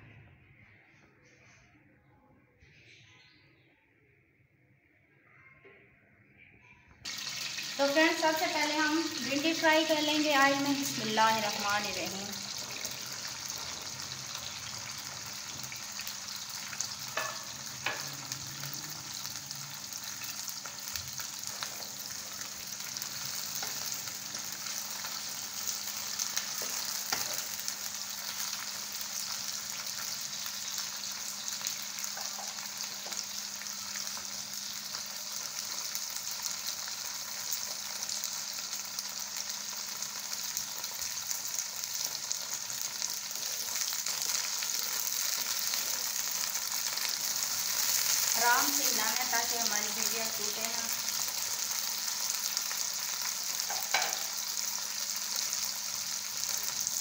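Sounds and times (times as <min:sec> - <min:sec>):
okra sizzling in hot oil: 0:07.0 - 0:57.0.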